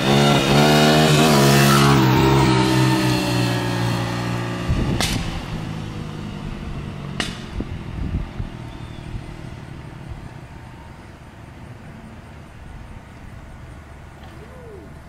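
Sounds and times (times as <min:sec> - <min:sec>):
distant dirt bike engine: 0:00.0 - 0:15.0.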